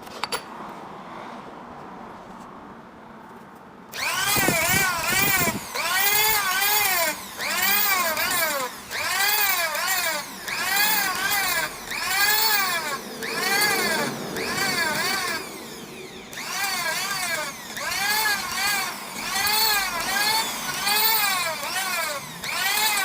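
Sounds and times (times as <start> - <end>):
sanding strokes on steel: 4.0 - 23.0.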